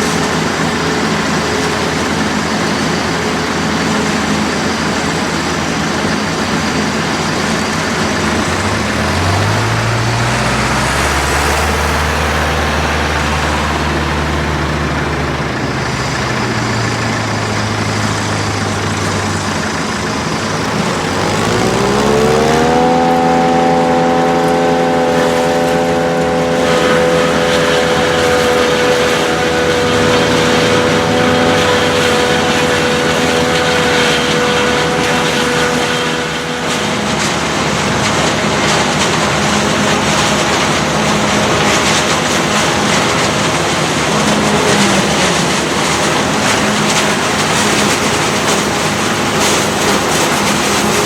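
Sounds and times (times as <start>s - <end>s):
rough mechanical noise: 0.0s - 51.0s
tractor engine at high revs: 0.0s - 51.0s.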